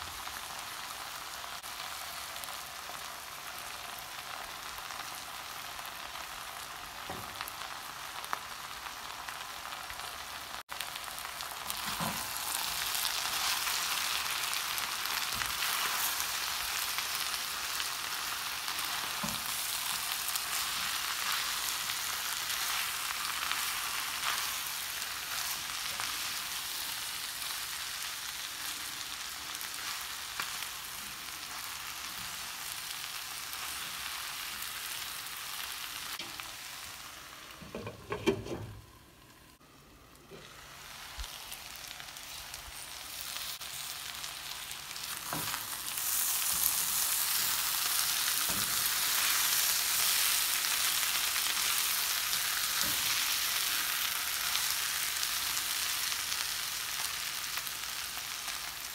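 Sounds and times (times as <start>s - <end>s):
vegetables sizzling in oil: 0.0s - 58.9s.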